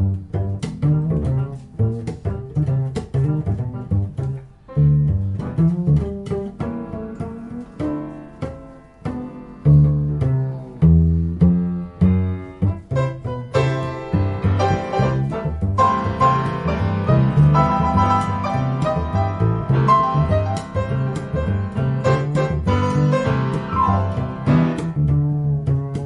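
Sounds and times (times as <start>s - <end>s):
double bass plucked notes: 0.0s - 26.0s.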